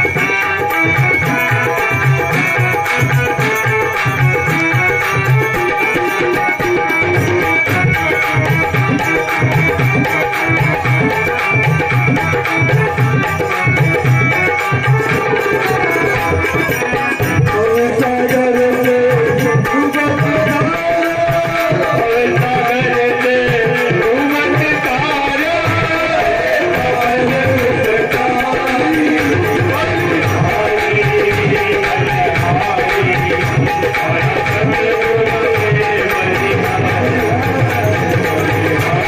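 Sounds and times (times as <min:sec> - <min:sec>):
tabla hand drum beat: 0:00.0 - 0:39.0.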